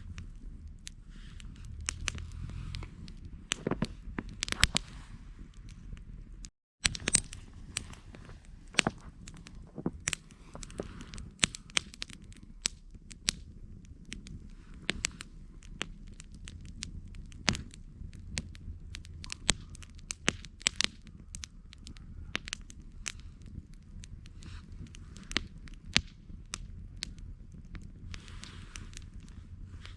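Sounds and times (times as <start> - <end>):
campfire wood popping: 0.0 - 29.9
fire burning rush: 0.0 - 29.9.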